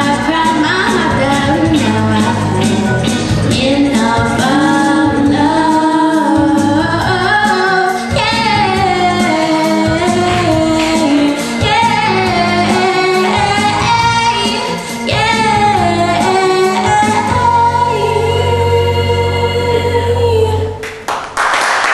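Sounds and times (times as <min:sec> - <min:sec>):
woman singing a pop ballad: 0:00.0 - 0:20.8
instrumental accompaniment: 0:00.0 - 0:21.1.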